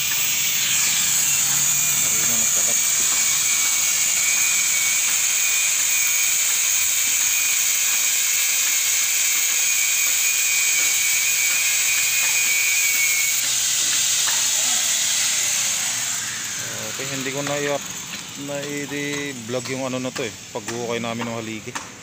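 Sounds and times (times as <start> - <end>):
angle grinder cutting steel: 0.0 - 21.8.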